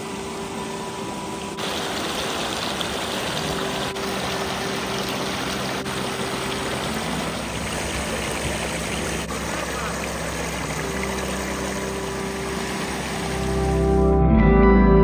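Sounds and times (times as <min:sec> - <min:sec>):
creek water splashing over rocks: 0:01.5 - 0:14.0.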